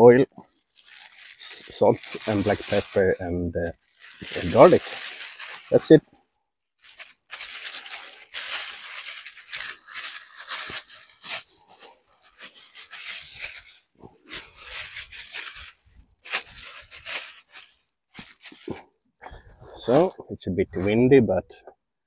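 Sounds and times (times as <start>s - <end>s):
plastic bag rustling: 0.4s - 6.1s, 6.8s - 20.1s.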